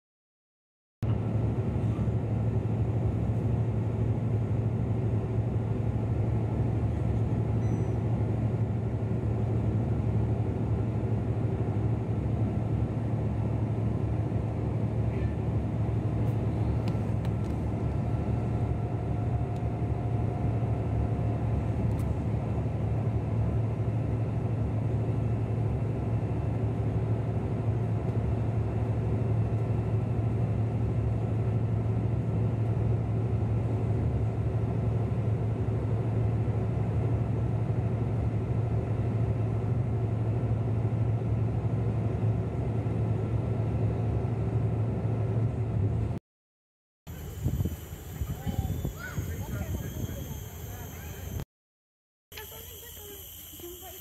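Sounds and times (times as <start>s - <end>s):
bus engine and road rumble: 1.0s - 46.2s, 47.1s - 51.4s.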